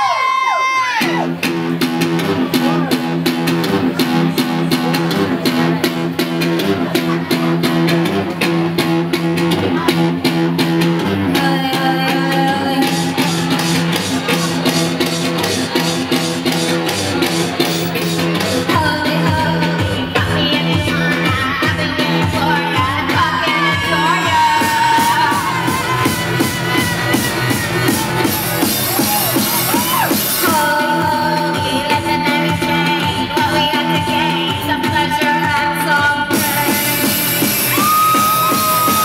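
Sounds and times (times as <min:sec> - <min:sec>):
electronic beat: 0:01.0 - 0:39.0.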